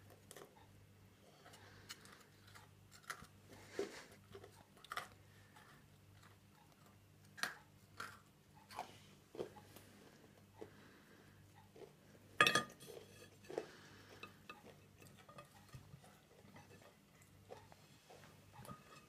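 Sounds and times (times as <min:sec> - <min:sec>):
crunchy biscuit chewing: 0:00.0 - 0:19.0
faint steady hum: 0:00.0 - 0:19.0.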